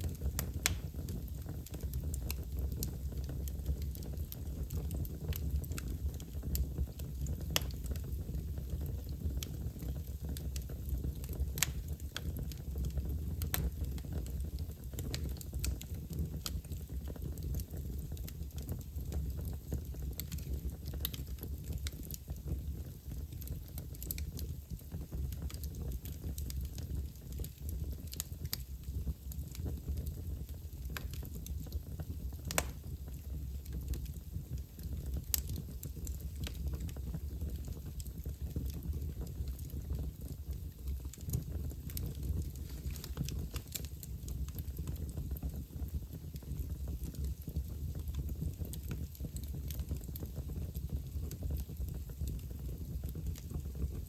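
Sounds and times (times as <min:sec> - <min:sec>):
fire crackling and popping: 0:00.0 - 0:54.0
low rumble of fire flames: 0:00.0 - 0:54.0.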